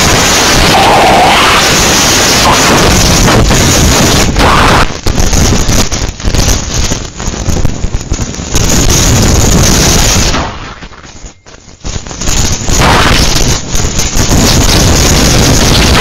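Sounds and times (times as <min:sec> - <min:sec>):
strong wind blasting microphone: 0:00.0 - 0:16.0.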